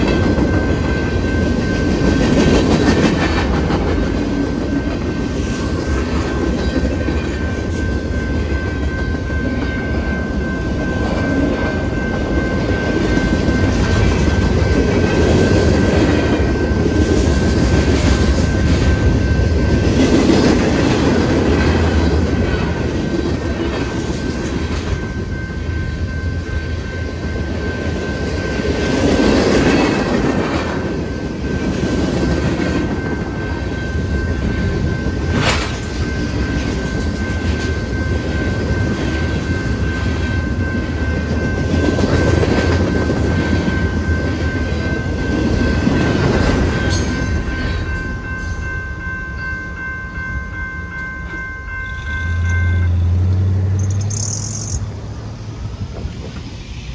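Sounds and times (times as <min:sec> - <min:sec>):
freight train wheels clattering: 0:00.0 - 0:54.8
crossing bell ringing: 0:00.0 - 0:55.9.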